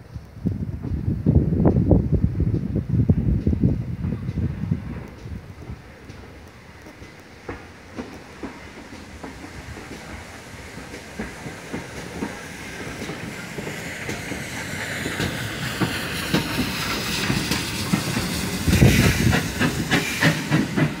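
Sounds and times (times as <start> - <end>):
train passing rumble: 0.0 - 21.0
train wheels clicking on rails: 0.0 - 21.0
steam hissing: 3.0 - 21.0.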